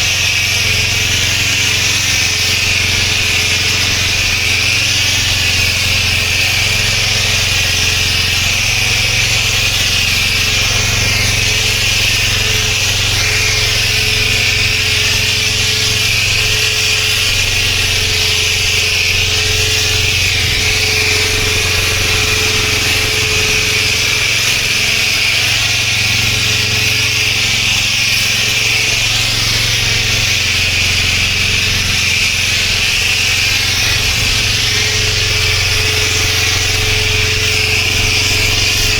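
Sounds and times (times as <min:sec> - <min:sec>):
pressure washer machine drone: 0:00.0 - 0:38.9
pressure washer water jet hissing: 0:00.0 - 0:38.9.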